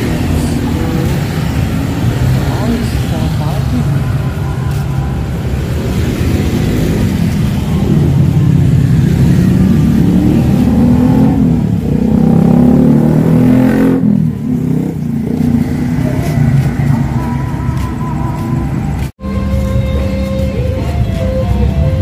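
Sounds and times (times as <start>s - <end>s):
vehicle engine revving: 0.0s - 19.1s.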